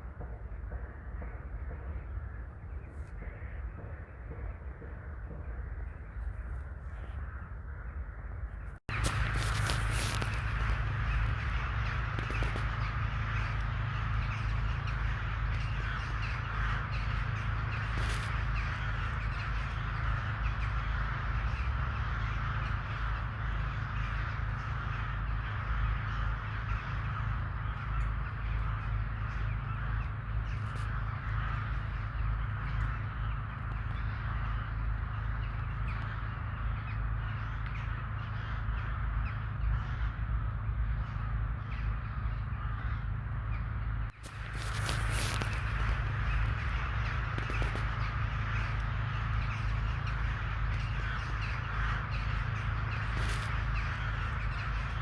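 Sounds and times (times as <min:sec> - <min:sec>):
flock of crows cawing: 0:00.0 - 0:55.0.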